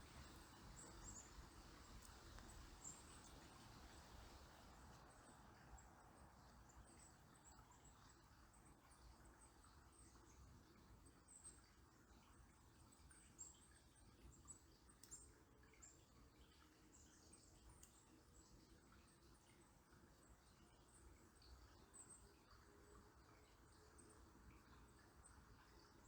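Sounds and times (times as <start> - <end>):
distant river water: 0.0 - 26.0.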